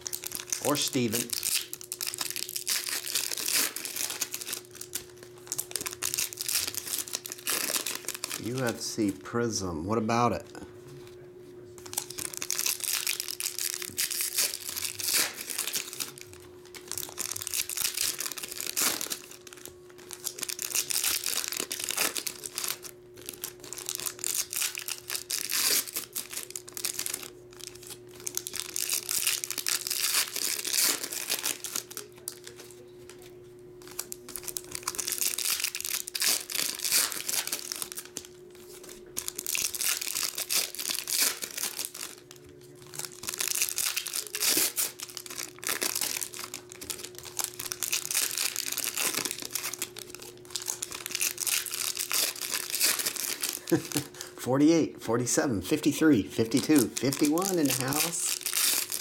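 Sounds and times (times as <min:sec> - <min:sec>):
foil wrappers tearing and crinkling: 0:00.0 - 0:09.6, 0:11.8 - 0:54.4, 0:55.7 - 0:59.0.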